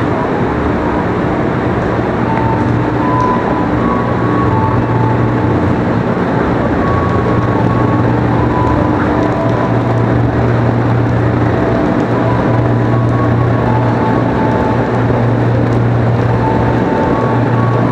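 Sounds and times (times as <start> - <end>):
electric train running: 0.0 - 17.9
traction equipment tones: 0.0 - 17.9.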